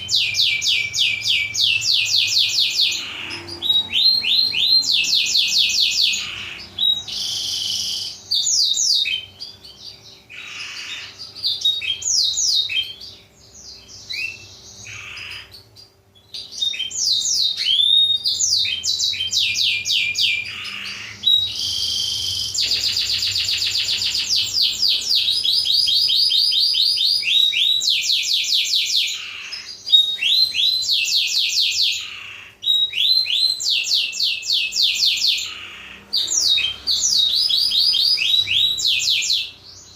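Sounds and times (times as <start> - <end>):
canary singing chirps and trills: 0.0 - 39.9.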